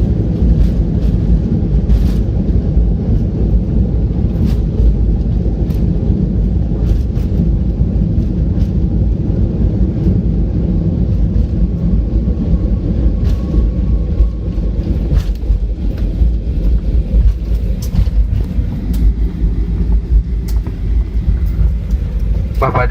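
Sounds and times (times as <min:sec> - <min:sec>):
aircraft cabin rumble: 0:00.0 - 0:22.9.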